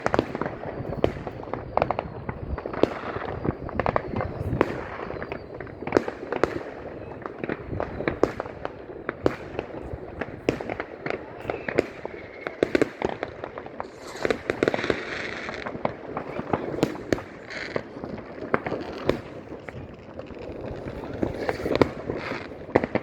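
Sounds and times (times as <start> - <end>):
firework whistle: 0.0 - 22.8
fireworks and firecrackers banging: 0.0 - 23.0.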